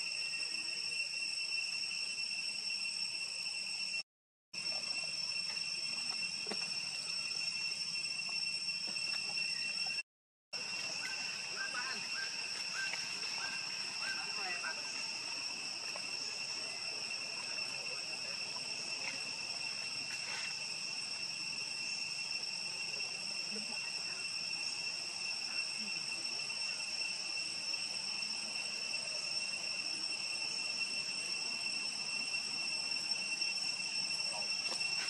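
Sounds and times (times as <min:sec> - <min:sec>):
insect chorus drone: 0:00.0 - 0:35.0.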